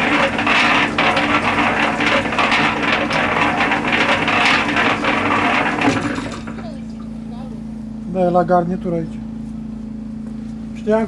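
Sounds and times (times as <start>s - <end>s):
water pump humming: 0.0s - 9.4s.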